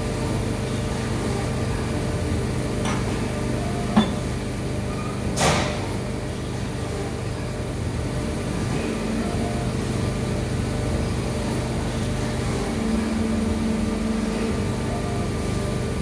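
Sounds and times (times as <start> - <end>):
injection moulding machine hum: 0.0 - 16.0.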